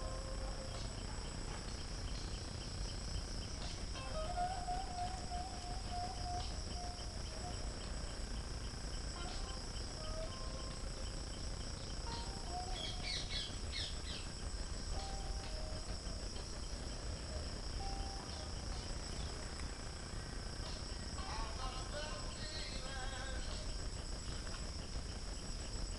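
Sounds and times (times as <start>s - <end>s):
insect chorus: 0.0s - 25.9s.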